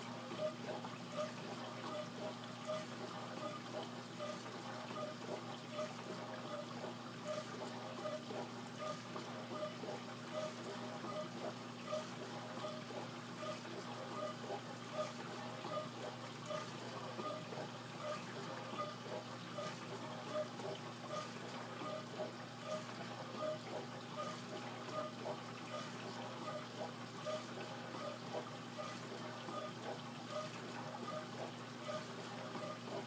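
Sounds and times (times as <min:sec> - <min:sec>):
pump motor humming: 0:00.0 - 0:33.0.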